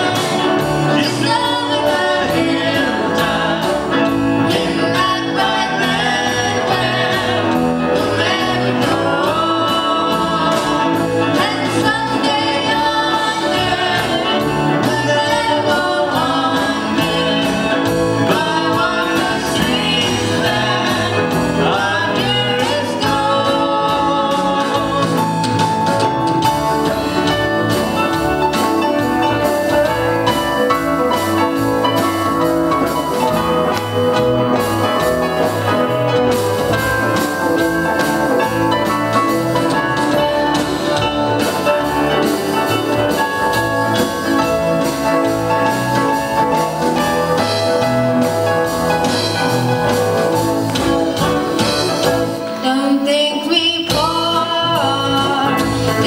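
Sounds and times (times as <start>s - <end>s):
church band with acoustic guitar: 0.0s - 56.0s.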